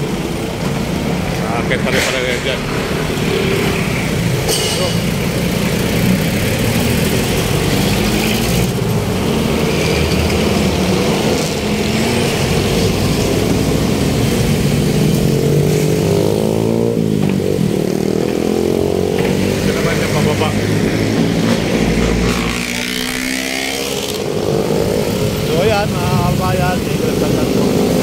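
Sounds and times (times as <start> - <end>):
city street traffic: 0.0 - 28.0
engine revving: 1.2 - 28.0.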